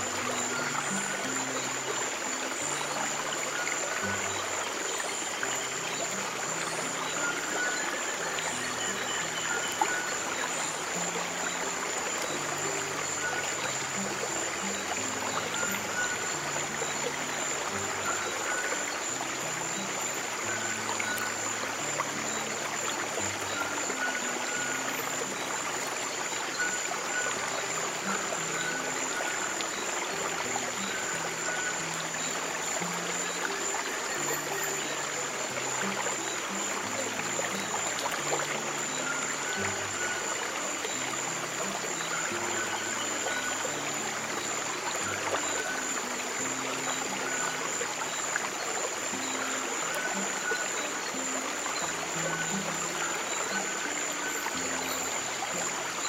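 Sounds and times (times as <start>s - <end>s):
soft low sustained music: 0.0s - 56.0s
stream water rushing: 0.0s - 56.0s.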